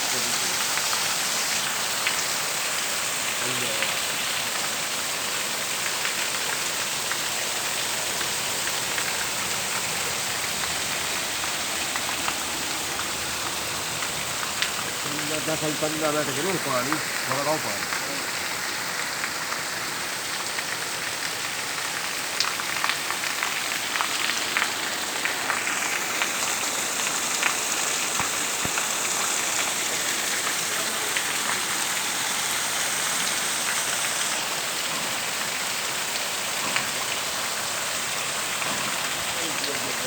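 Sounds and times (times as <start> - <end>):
heavy rain pouring: 0.0 - 40.0
raindrops tapping close by: 0.1 - 40.0.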